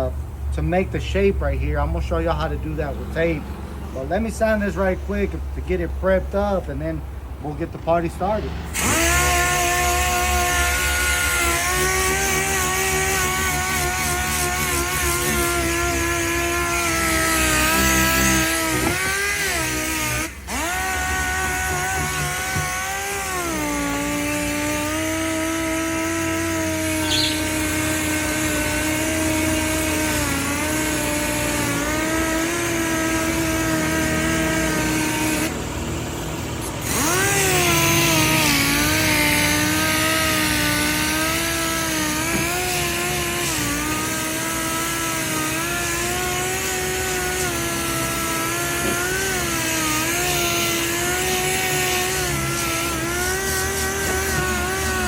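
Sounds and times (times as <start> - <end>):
power sander motor whine: 7.5 - 55.0.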